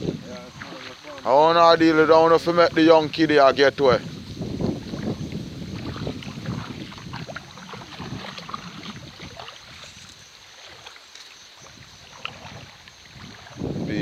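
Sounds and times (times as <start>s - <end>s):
water splashing around wading legs: 0.0s - 13.9s.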